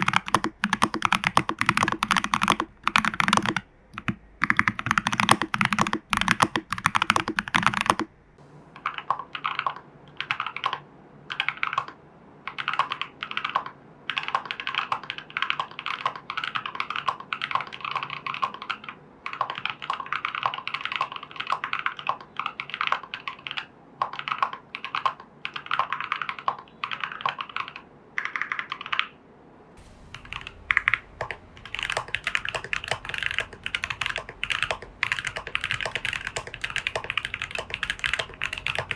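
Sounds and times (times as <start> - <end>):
typing on mechanical keyboard: 0.0 - 8.1, 9.5 - 29.2, 30.4 - 38.9.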